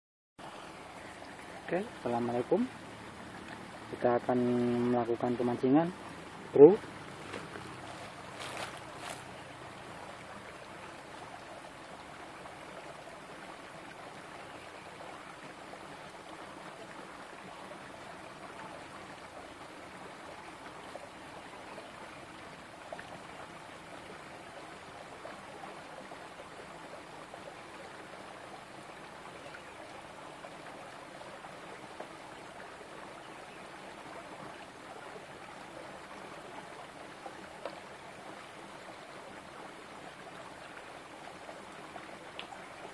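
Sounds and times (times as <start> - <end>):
stream trickling over rocks: 0.4 - 42.9.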